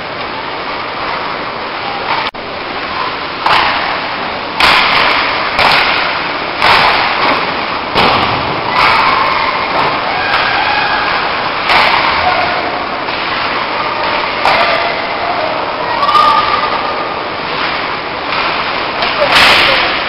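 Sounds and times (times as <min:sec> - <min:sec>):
ice rink ambience: 0:00.0 - 0:20.0.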